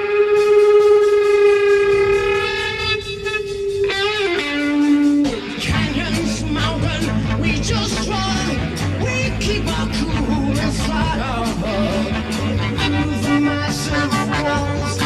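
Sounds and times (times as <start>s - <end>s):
rock band with drums: 0.0s - 15.0s
sustained lead guitar note bending: 0.0s - 15.0s.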